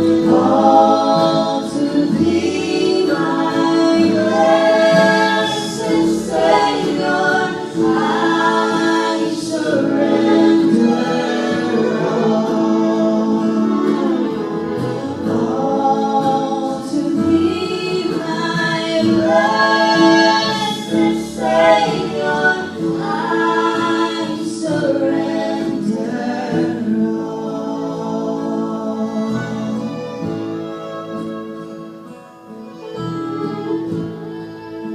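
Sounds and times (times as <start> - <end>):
vocal trio singing a hymn: 0.0 - 32.2.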